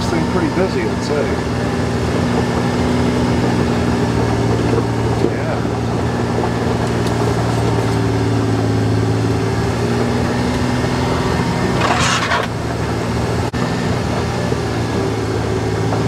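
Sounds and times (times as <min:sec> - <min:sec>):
vehicle engine running on gravel: 0:00.0 - 0:16.0.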